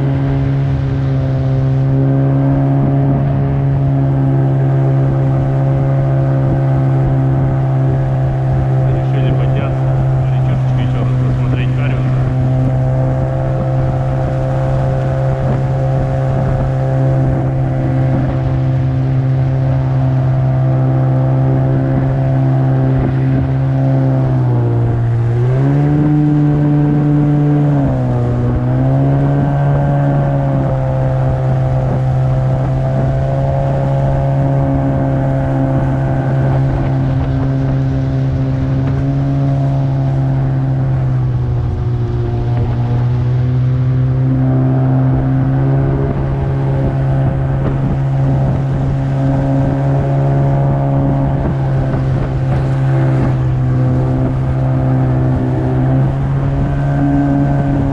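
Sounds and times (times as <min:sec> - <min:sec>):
outboard motor running: 0:00.0 - 0:57.9.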